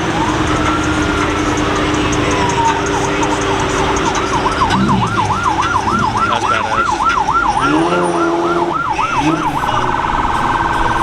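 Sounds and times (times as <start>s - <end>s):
emergency vehicle siren: 0.0s - 11.0s.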